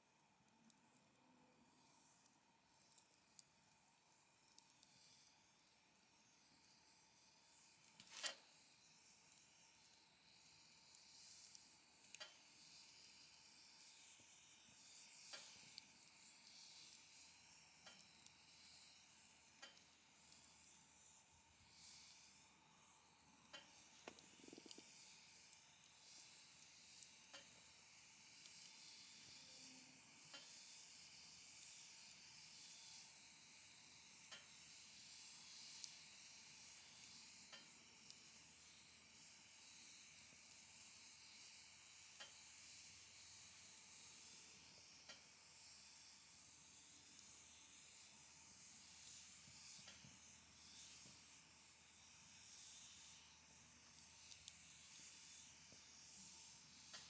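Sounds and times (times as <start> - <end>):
campfire crackling and hissing: 9.2 - 22.4, 23.0 - 57.0.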